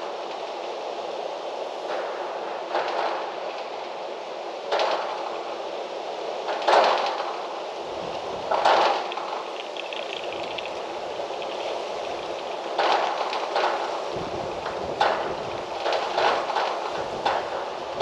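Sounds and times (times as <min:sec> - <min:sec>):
wind gusting through trees: 0:00.0 - 0:18.0.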